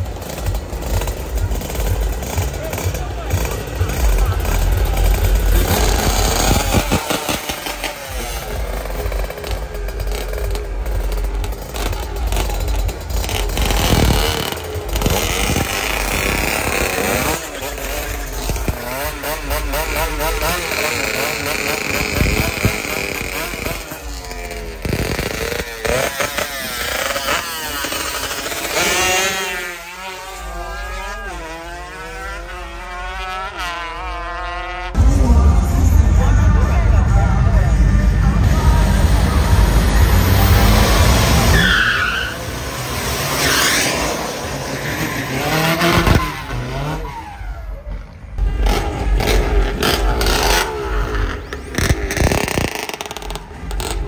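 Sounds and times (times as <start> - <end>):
two-stroke motorcycles revving: 0.0 - 54.0.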